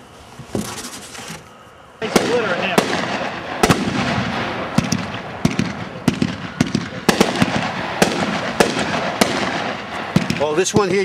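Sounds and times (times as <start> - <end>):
fireworks cracking: 2.0 - 11.0
fireworks hissing: 2.0 - 11.0.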